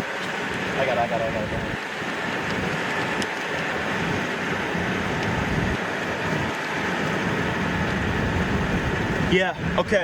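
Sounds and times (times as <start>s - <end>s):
road and wind noise in car: 0.0s - 10.0s.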